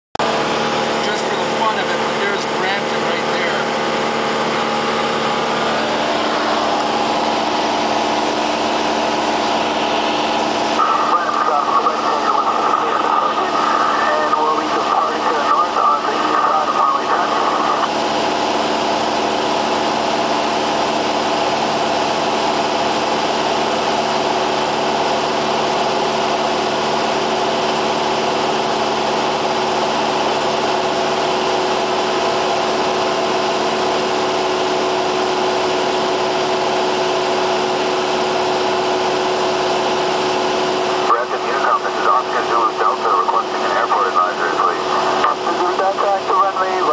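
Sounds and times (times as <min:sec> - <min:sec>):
propeller plane engine drone: 0:00.2 - 0:46.9.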